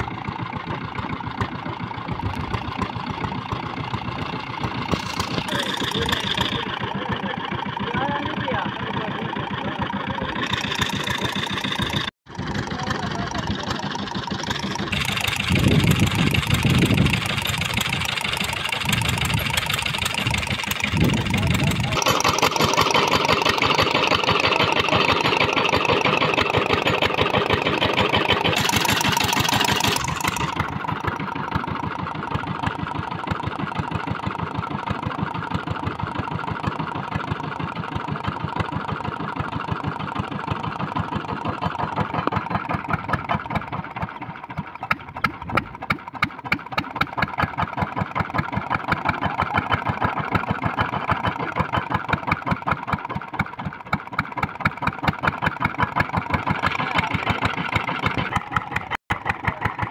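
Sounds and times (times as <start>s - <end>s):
small diesel engine running: 0.0s - 59.9s.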